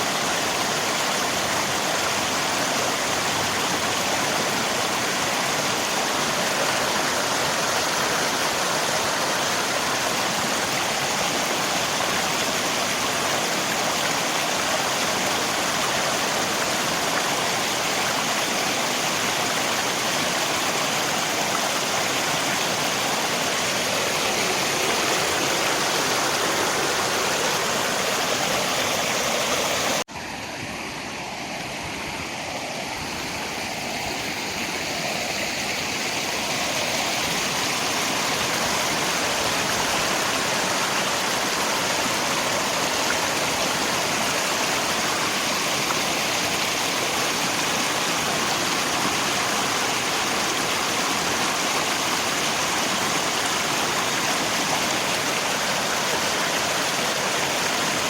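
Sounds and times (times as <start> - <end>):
rain: 0.0 - 58.0
river water rushing: 0.0 - 58.0.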